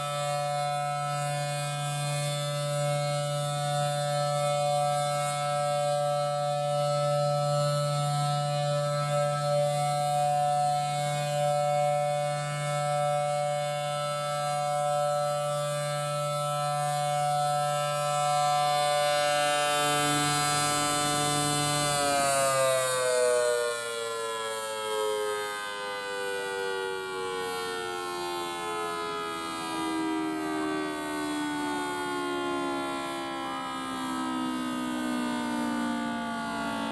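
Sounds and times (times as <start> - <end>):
two-tone siren winding down: 0.0 - 36.9.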